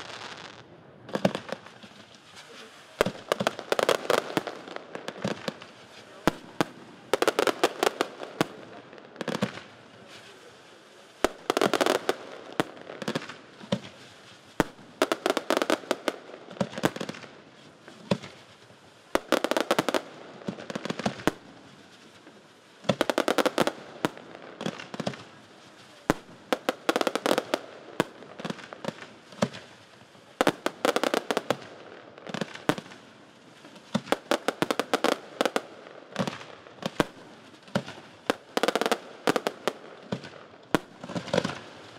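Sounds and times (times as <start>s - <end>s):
firework shells bursting and crackling: 0.0s - 41.9s.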